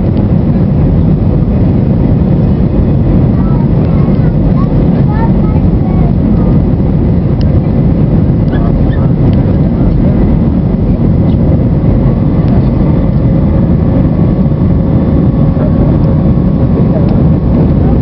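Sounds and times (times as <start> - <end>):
airliner engines roaring in cabin: 0.0 - 18.0
rushing air: 0.0 - 18.0.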